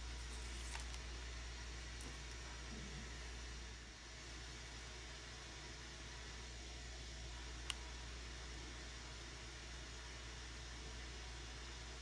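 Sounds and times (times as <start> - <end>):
background hiss and low hum: 0.0 - 12.0.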